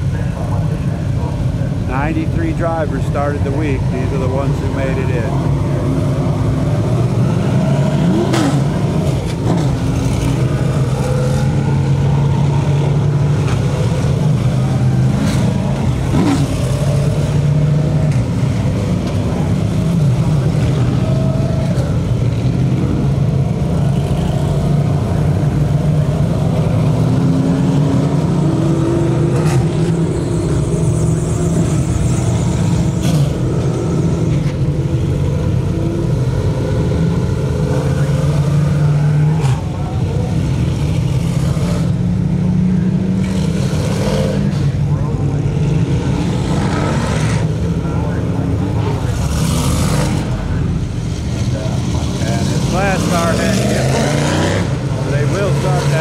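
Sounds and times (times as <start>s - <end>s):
race car engines passing: 0.0s - 56.0s.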